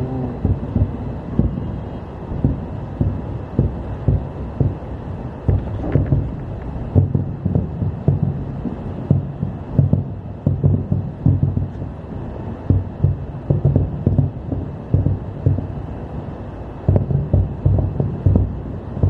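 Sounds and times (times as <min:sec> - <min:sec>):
fireworks booming: 0:00.0 - 0:19.0.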